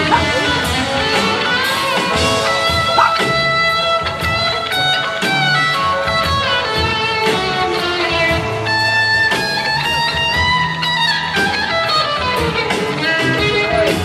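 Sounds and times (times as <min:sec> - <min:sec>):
electric guitar bending notes: 0:00.0 - 0:14.0.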